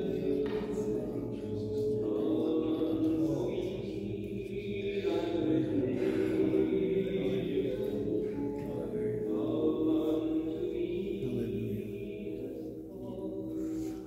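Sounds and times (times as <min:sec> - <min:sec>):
voices chanting softly: 0:00.0 - 0:14.0.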